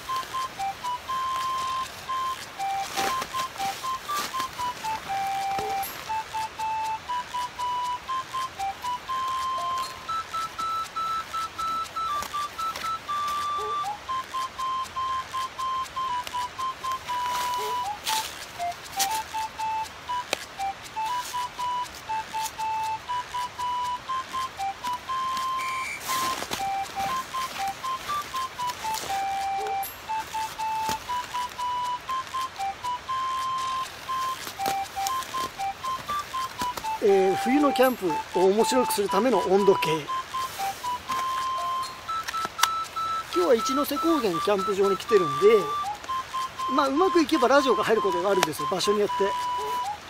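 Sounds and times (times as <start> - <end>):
electronic beeping tune: 0.0 - 50.0
rustling: 0.0 - 50.0.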